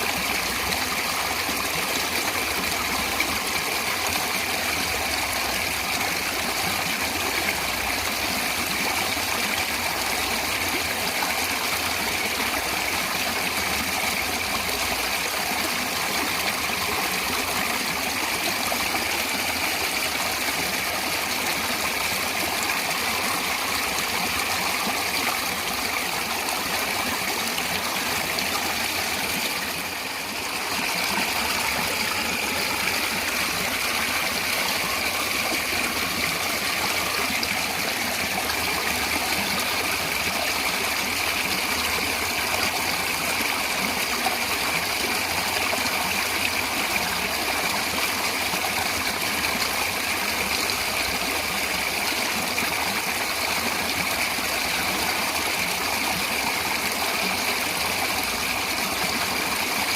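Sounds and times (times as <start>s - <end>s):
flowing water: 0.0s - 59.9s.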